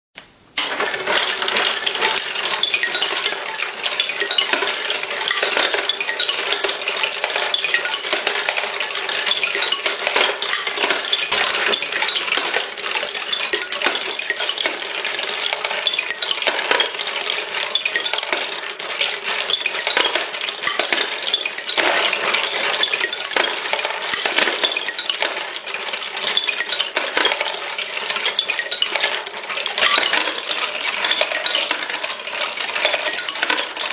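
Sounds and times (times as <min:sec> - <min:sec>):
marbles clattering on wooden ramps: 0:00.6 - 0:33.9.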